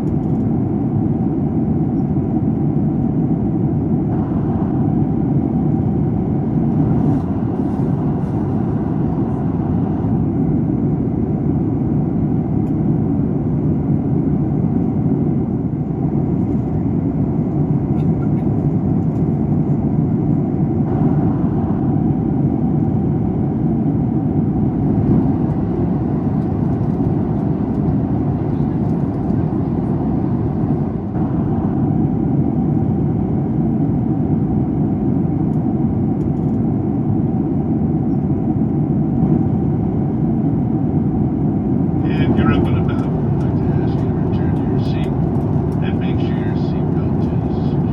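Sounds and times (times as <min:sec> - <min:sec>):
airplane cabin noise: 0:00.0 - 0:47.9.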